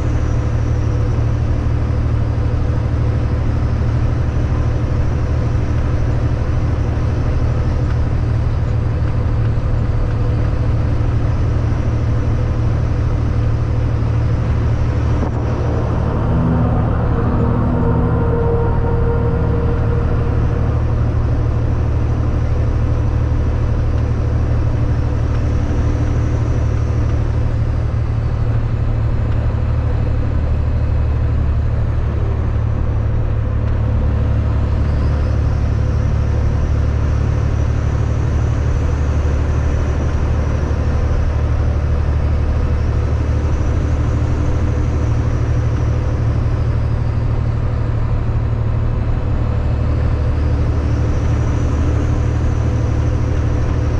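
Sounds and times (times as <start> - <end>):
road noise: 0.0 - 53.9
truck diesel engine drone: 0.0 - 53.9.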